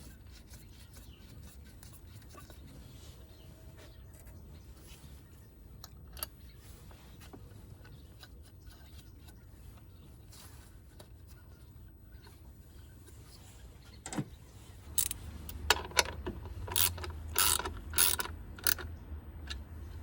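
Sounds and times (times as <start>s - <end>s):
handling clicks and rubbing: 3.8s - 20.0s.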